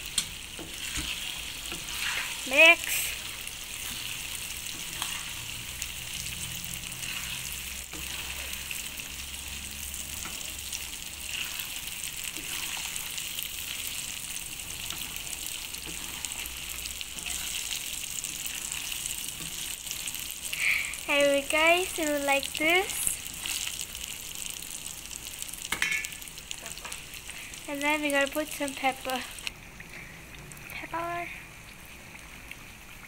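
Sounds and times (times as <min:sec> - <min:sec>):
chicken frying in oil: 0:00.0 - 0:33.0.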